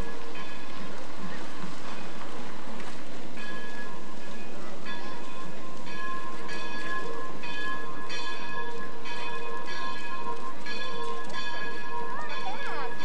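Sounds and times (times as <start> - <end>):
locomotive bell ringing: 0.0 - 2.3, 3.3 - 13.0.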